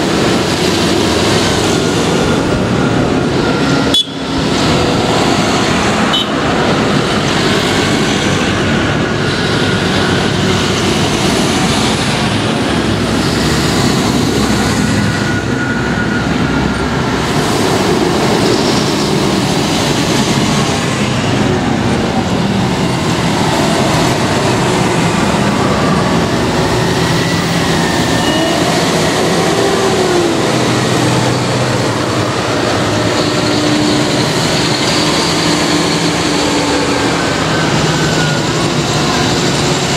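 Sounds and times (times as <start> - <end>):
tractor diesel engines: 0.0 - 39.9
tyres humming on road: 0.0 - 39.9.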